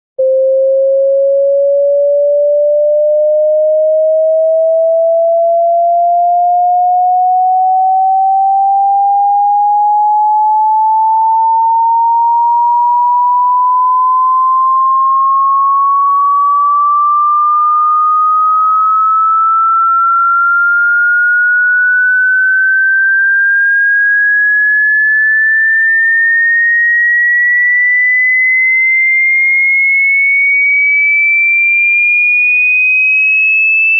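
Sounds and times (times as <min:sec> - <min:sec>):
sine tone sweeping upward: 0:00.2 - 0:33.9.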